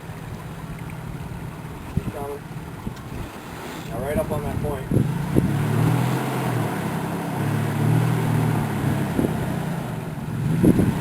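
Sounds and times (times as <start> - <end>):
off-road vehicle engine droning: 0.0 - 11.0.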